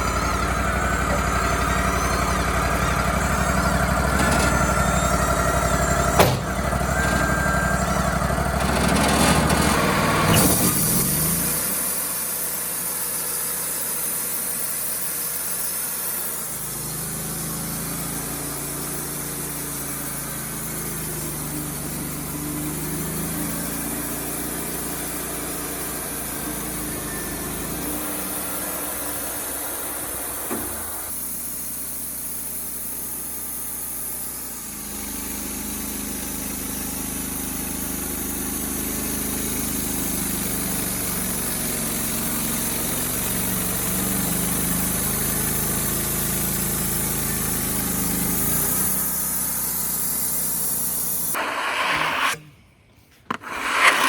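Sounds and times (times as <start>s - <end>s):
sawmill engine running: 0.0s - 52.6s, 53.3s - 54.0s.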